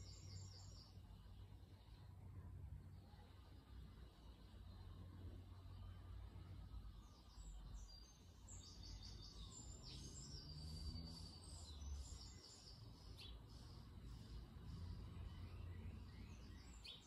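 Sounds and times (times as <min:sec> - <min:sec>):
faint bird song with trill: 0:00.0 - 0:17.0.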